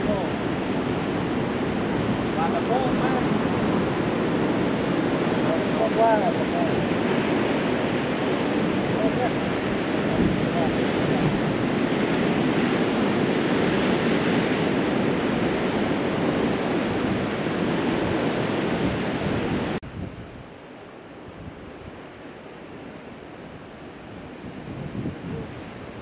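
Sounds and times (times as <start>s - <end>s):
wind buffeting microphone: 0.0s - 20.6s, 21.2s - 26.0s
sea: 0.0s - 26.0s.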